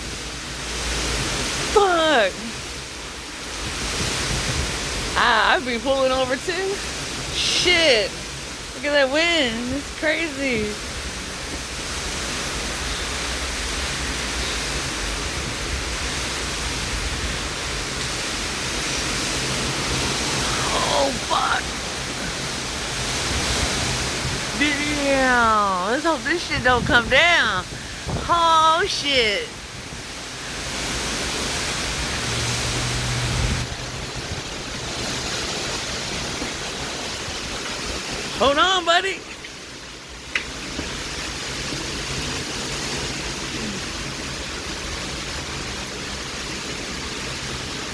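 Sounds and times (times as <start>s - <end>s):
torrential rain in wind: 0.0s - 47.9s.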